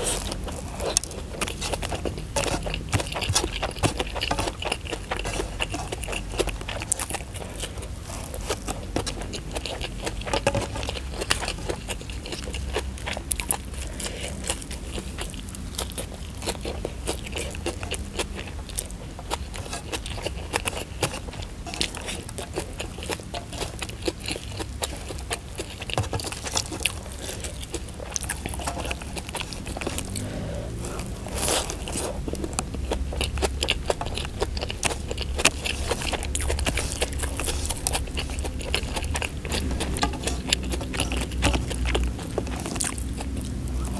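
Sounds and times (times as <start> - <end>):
fingers scraping food on tray: 0.0 - 15.4, 16.1 - 43.9
chewing and crunching food: 0.0 - 43.9.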